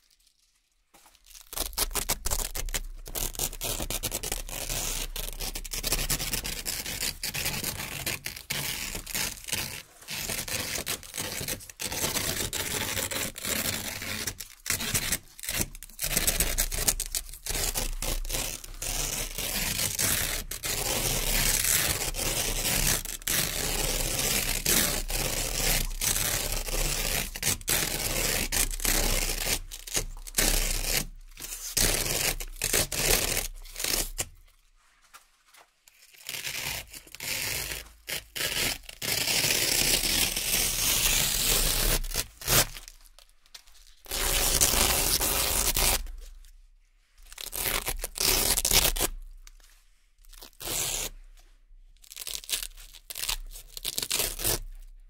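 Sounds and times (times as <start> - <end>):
velcro ripping: 0.0 - 34.6, 35.5 - 46.5, 47.2 - 49.4, 50.3 - 51.3, 52.0 - 54.9.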